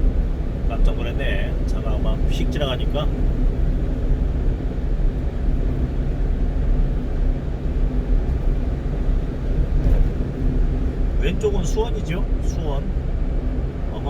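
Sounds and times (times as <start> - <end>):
truck engine and road noise: 0.0 - 14.0.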